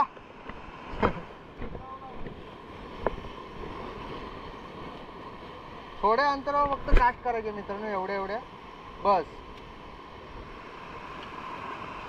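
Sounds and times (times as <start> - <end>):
sea surf: 0.0 - 12.0.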